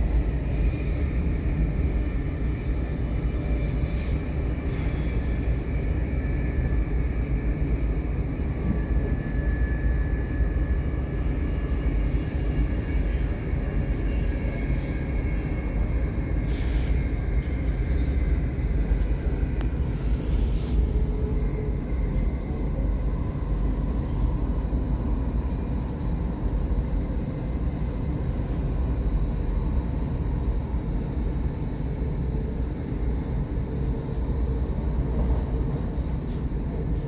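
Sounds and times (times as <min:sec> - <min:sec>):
train rumble from inside carriage: 0:00.0 - 0:37.0.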